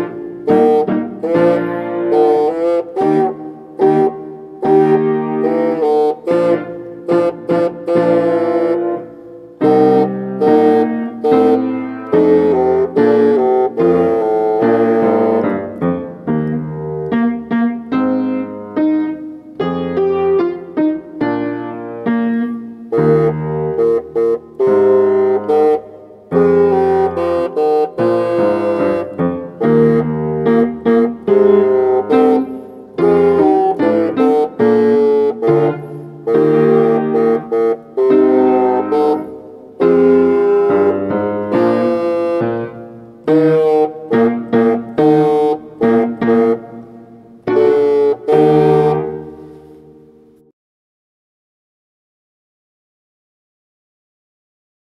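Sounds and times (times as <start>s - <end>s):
bassoon melody: 0.0s - 50.5s
piano accompaniment: 0.0s - 50.5s.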